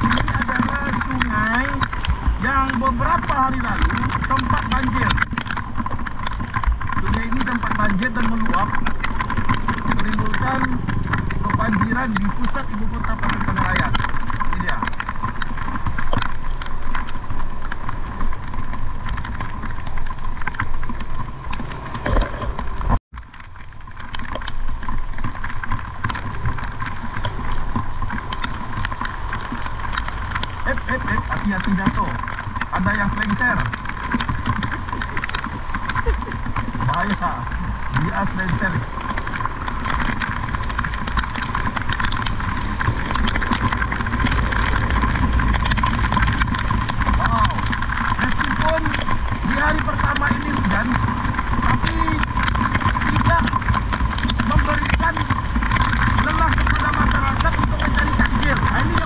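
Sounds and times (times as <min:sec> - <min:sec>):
constant hum: 0:00.0 - 0:59.0
rain tapping: 0:00.0 - 0:59.0
small ticks: 0:00.0 - 0:59.0
vehicle road and wind noise: 0:00.0 - 0:59.0.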